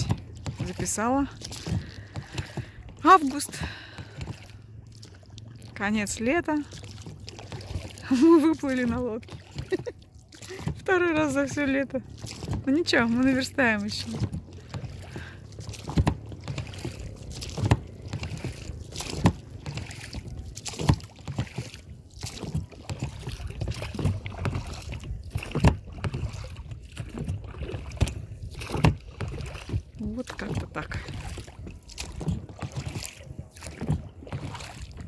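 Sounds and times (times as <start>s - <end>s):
oar strokes knocking and swirling: 0.0s - 35.0s
water lapping against boat: 0.0s - 35.0s.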